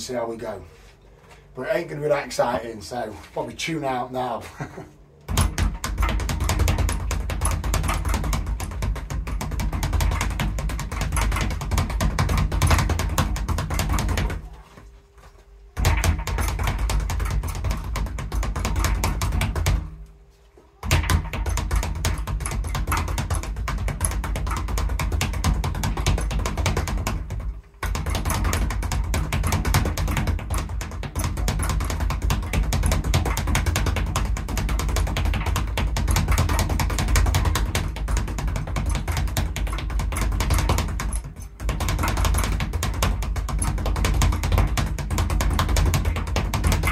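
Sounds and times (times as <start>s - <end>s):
speed bag drumming: 5.3s - 14.6s, 15.8s - 20.1s, 20.8s - 46.9s.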